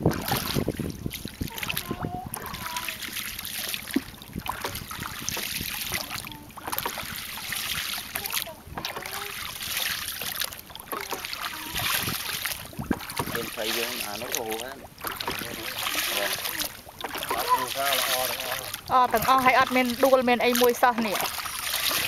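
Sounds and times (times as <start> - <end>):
oar strokes splashing in water: 0.0 - 22.0
water moving: 0.0 - 22.0.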